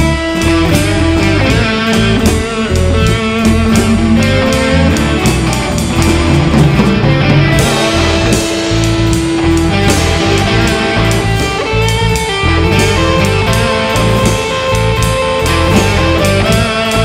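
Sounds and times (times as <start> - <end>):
bass: 0.0 - 17.0
drum kit beat: 0.0 - 17.0
electric guitar lead lines: 0.0 - 17.0.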